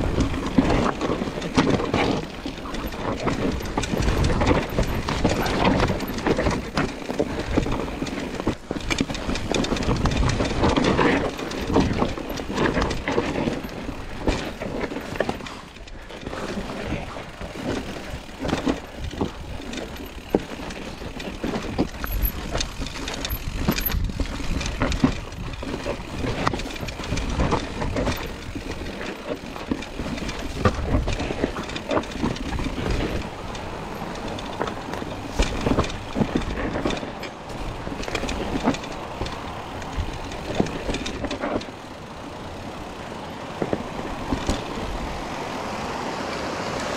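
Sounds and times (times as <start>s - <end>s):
bike knocking and rattling: 0.0s - 46.9s
tyre noise: 0.0s - 46.9s.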